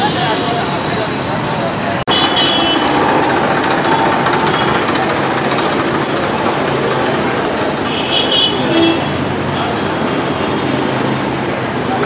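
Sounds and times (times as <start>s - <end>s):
traffic engines din: 0.0s - 12.0s.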